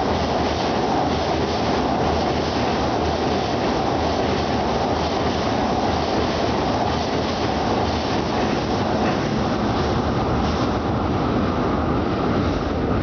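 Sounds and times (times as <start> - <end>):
train rumbling over bridge: 0.0 - 13.0.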